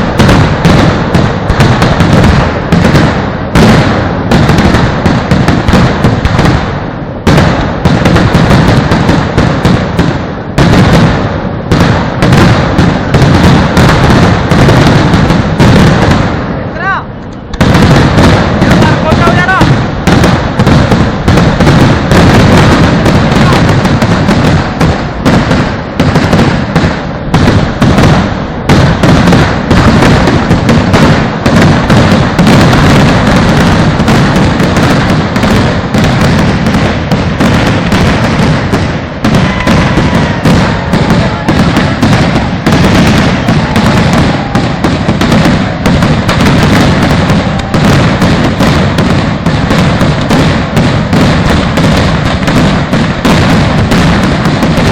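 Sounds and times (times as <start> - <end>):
firecrackers exploding: 0.0 - 54.9.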